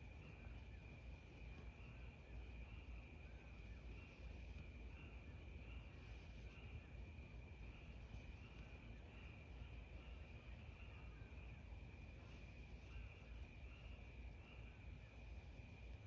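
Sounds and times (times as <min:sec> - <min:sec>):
crickets trilling: 0:00.0 - 0:16.0
low background rumble: 0:00.0 - 0:16.0.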